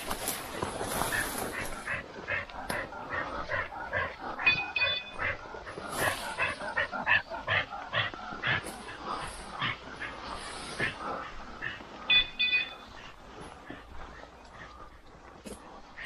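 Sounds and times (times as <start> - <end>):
dog panting: 0.1 - 16.0.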